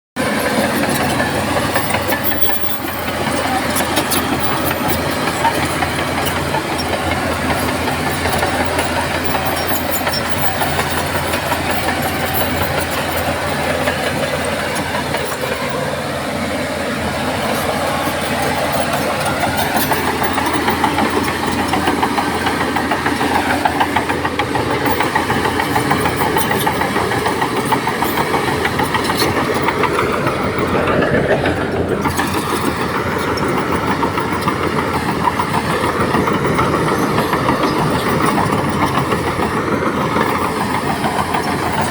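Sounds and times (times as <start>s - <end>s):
heavy diesel engine running: 0.2s - 41.9s.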